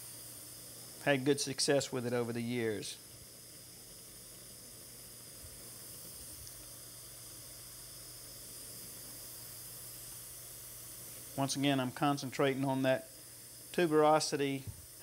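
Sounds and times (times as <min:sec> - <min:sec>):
faint steady hiss: 0:00.0 - 0:15.0
low steady hum: 0:00.0 - 0:15.0.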